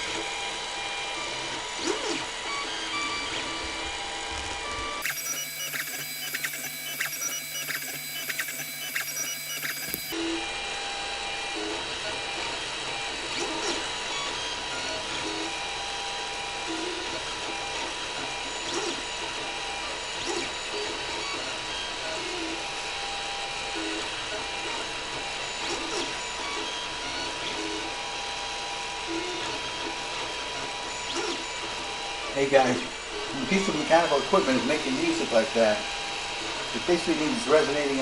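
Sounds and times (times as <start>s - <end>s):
printer stepper motors humming: 0.0s - 16.1s, 17.4s - 38.0s.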